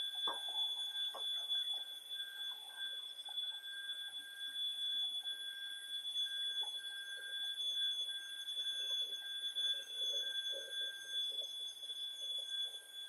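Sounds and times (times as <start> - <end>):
lower wavering tone: 0.0 - 13.0.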